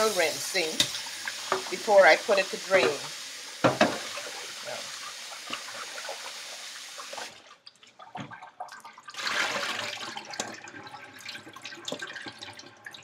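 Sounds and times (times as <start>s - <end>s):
tap water running into metal bowl: 0.0s - 13.0s
water pouring and splashing into sink: 0.0s - 13.0s.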